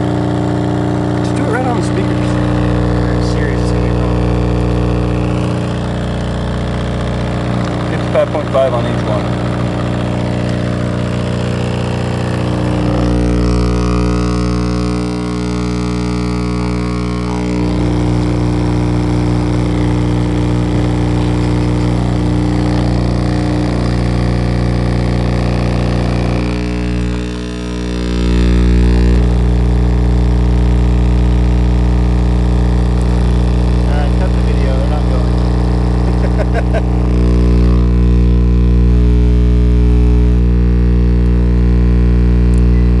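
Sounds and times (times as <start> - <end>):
loud buzzy mains hum: 0.0 - 43.0.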